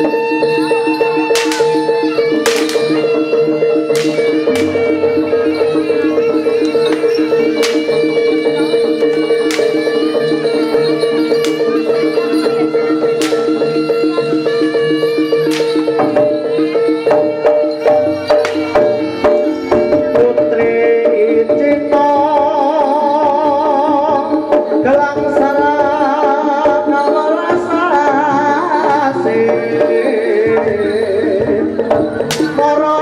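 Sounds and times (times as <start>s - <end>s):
gamelan tones: 0.0s - 33.0s
hand drums beating: 0.0s - 33.0s
wavering melody line: 0.0s - 33.0s.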